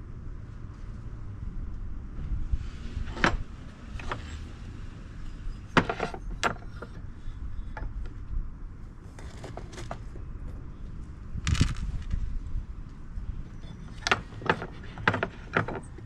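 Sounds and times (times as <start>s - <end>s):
low steady rumble: 0.0s - 15.8s.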